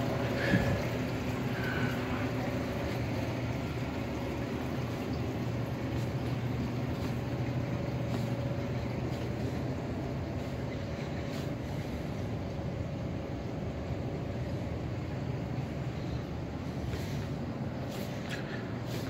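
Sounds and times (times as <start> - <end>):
appliance hum: 0.0 - 19.0.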